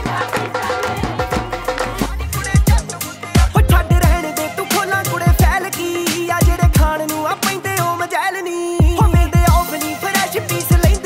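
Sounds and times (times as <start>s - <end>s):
instrumental music with heavy beat: 0.0s - 11.0s.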